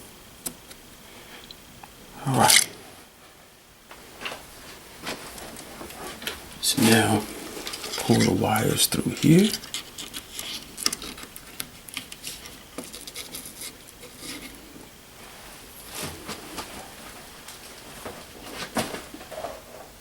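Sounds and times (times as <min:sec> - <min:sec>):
plastic and wires rustling and scraping: 0:02.4 - 0:20.0.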